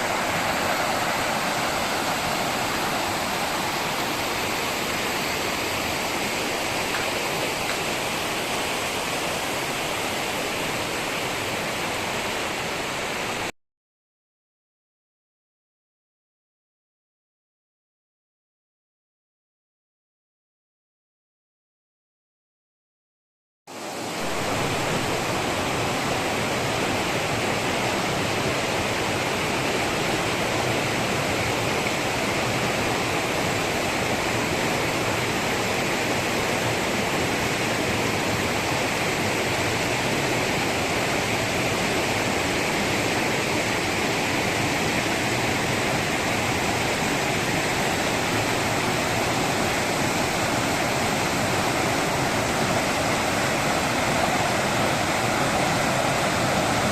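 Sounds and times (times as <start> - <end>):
flowing water rushing: 0.0 - 13.5, 23.7 - 56.9.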